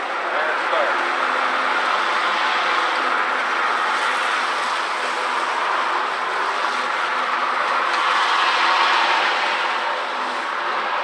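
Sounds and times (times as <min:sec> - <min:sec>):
electric lawn mower running: 0:00.0 - 0:11.0.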